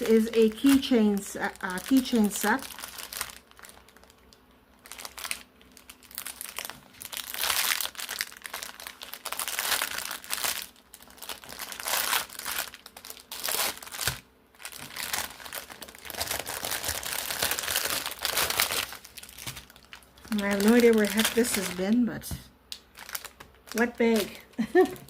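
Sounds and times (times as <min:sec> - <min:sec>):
packaging bag crinkling: 0:00.0 - 0:25.0.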